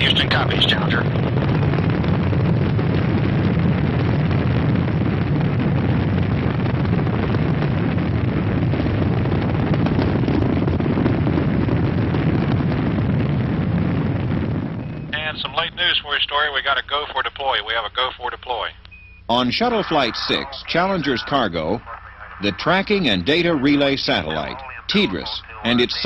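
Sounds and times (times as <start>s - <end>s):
deep rocket roar: 0.0s - 17.2s, 19.6s - 26.0s.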